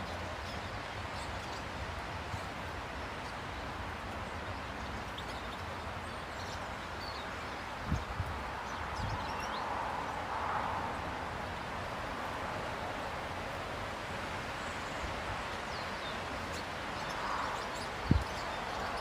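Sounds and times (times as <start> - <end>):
small birds chirping: 0.0 - 11.7, 14.5 - 19.0
outdoor background hiss: 0.0 - 19.0.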